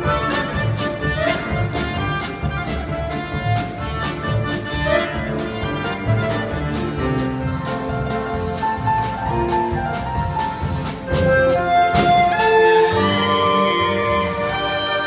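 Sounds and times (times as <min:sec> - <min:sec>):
band long held notes: 0:00.0 - 0:15.0
band playing melody: 0:00.0 - 0:15.0
percussion beat: 0:00.0 - 0:15.0.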